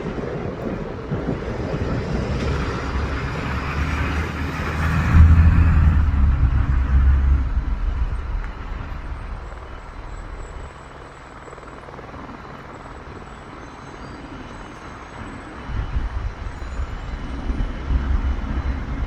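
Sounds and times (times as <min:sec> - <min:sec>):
helicopter rotor and engine rumble: 0:00.0 - 0:19.0.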